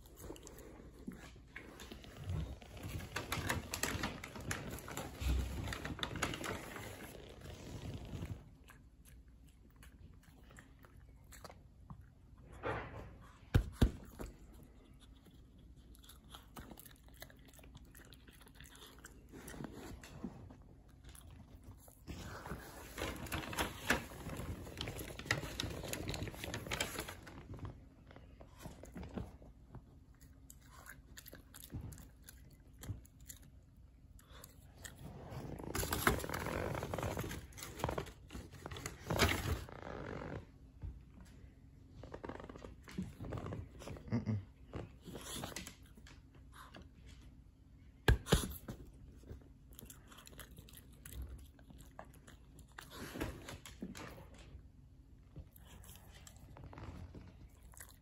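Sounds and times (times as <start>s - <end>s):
dog chewing and crunching treats: 0.0s - 12.4s, 13.7s - 39.7s, 49.1s - 54.6s, 55.4s - 58.0s.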